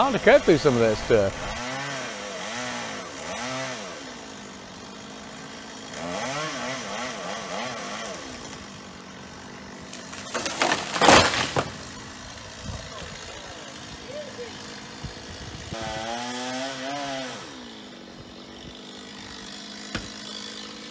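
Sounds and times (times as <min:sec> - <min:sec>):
chainsaw revving: 0:00.0 - 0:20.9.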